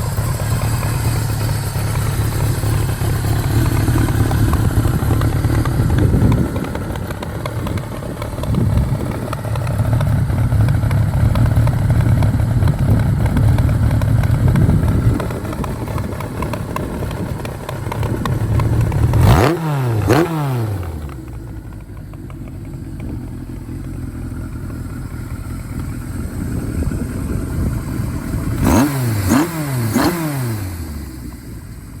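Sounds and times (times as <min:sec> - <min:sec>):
engine throttle blips: 0:00.0 - 0:32.0
motorcycle engine idling: 0:00.0 - 0:32.0.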